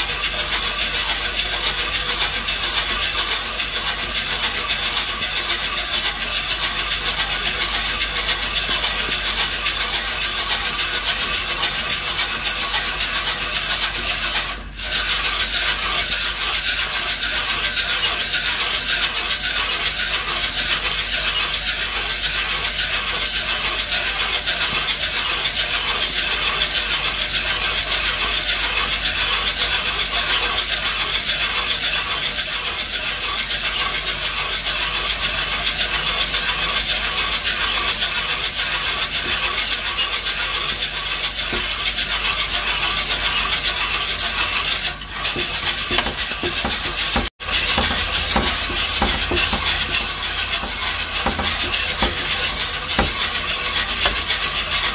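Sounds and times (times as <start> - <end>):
coffee beans tumbling in drum: 0.0 - 54.9.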